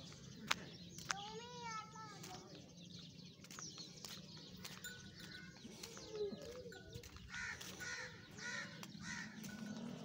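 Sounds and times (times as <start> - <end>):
bird calls: 0.0 - 10.0.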